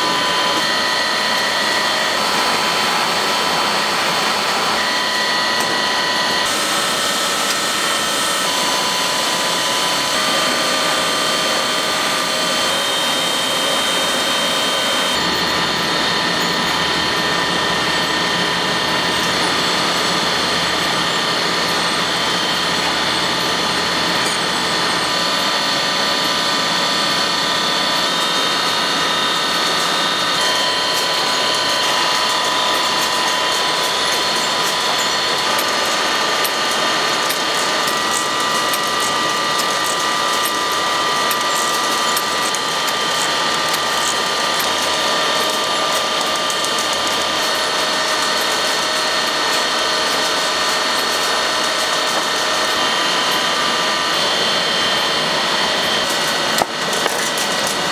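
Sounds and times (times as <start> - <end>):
conveyors clattering: 0.0 - 57.9
steady machine hum: 0.0 - 57.9.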